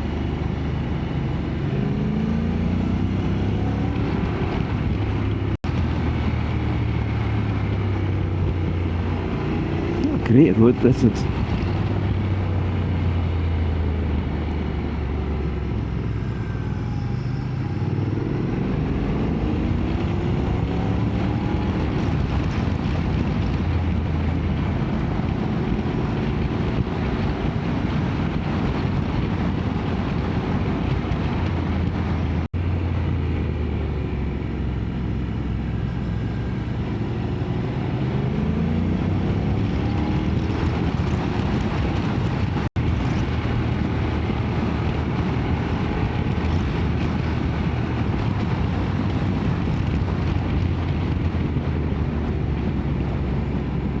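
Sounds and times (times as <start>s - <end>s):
motorcycle engine revving: 0.0s - 10.3s, 11.2s - 54.0s
wind noise: 0.0s - 54.0s.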